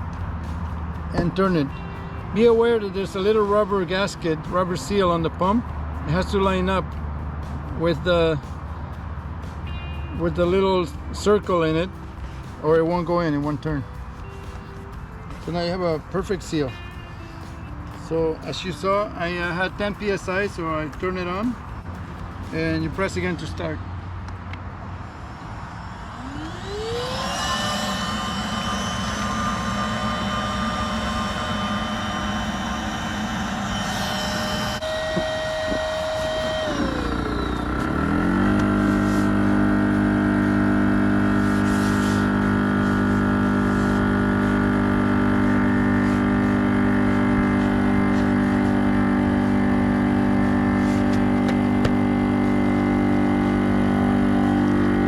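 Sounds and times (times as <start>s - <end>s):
electric inflation pump whining: 7.8s - 55.0s.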